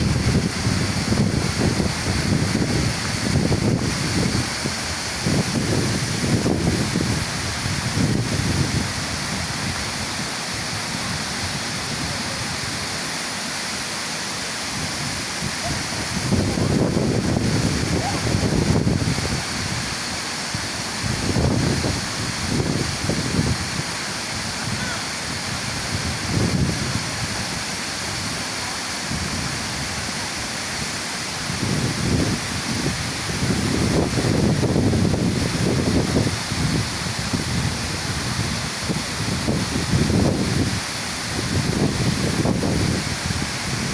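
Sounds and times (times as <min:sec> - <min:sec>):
wind buffeting microphone: 0:00.0 - 0:13.0, 0:14.6 - 0:28.4, 0:29.0 - 0:43.9
waterfall rushing: 0:00.0 - 0:43.9.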